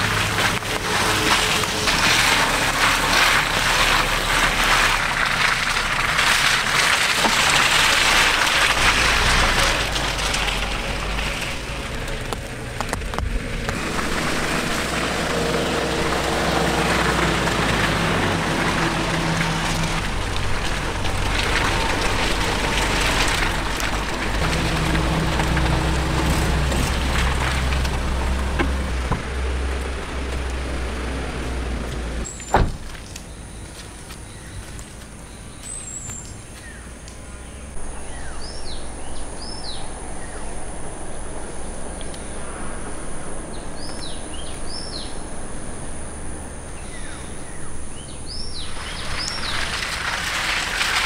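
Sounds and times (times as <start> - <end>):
rain hiss: 0.0 - 34.0, 34.6 - 51.0
car engine and road hum: 0.0 - 51.0.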